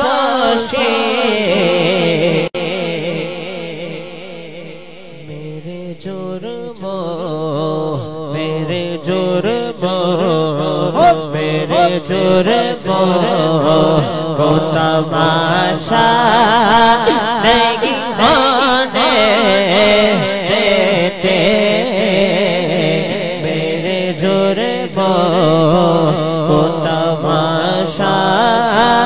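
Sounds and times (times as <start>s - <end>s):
man singing: 0.0s - 4.6s, 5.2s - 29.0s.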